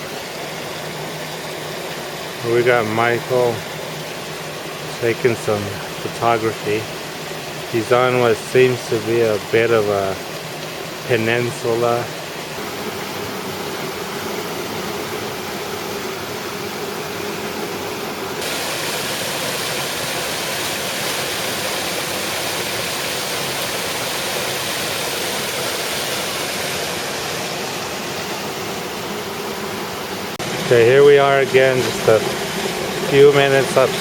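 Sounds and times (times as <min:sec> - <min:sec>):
rushing creek and waterfall: 0:00.0 - 0:34.0.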